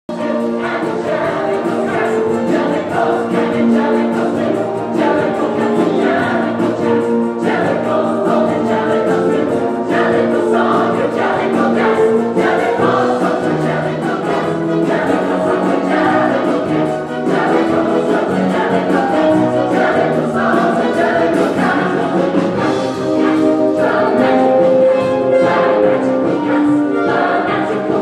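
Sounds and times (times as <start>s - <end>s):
chorus singing: 0.1s - 28.0s
instrumental accompaniment with beat: 0.1s - 28.0s.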